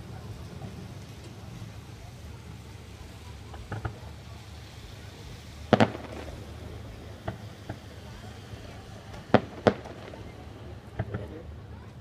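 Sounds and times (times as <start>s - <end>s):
distant fireworks bangs: 0.0s - 12.0s.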